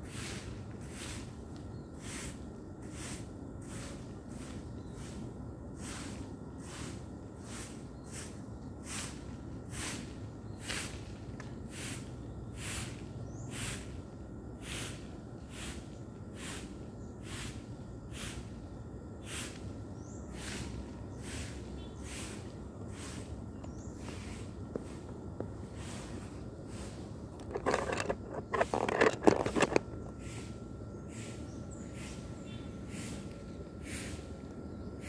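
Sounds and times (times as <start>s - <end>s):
broom sweeping pavement: 0.0s - 34.5s.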